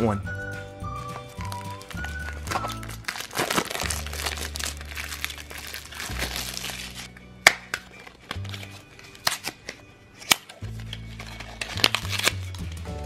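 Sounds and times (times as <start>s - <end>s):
quiet background music: 0.0s - 13.0s
plastic packaging crinkling: 1.0s - 7.1s, 7.8s - 12.8s.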